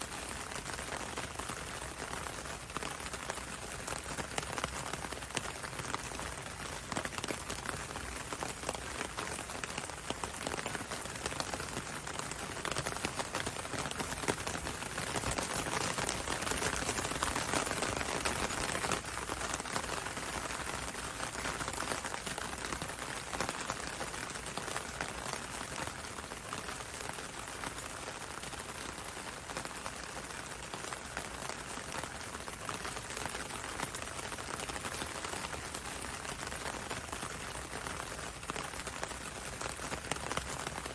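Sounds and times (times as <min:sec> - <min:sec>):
rain on window and road: 0:00.0 - 0:40.9.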